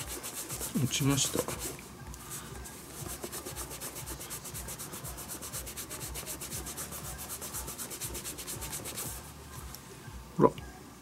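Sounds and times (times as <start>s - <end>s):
cloth rubbing leather: 0.0s - 9.3s.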